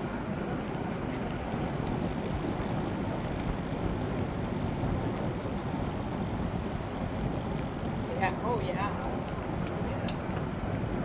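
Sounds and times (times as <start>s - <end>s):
tyres rolling on pavement: 0.0s - 11.0s
wind across microphone: 1.4s - 11.0s.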